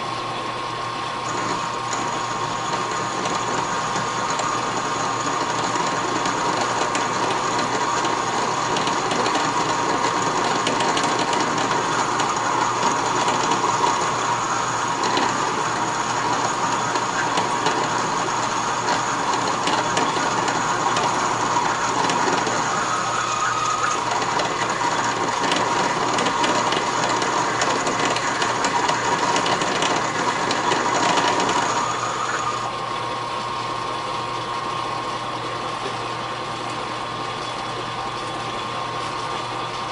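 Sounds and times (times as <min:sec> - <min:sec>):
constant machining whine: 0:00.0 - 0:39.9
metal lathe cutting steel: 0:01.1 - 0:39.8.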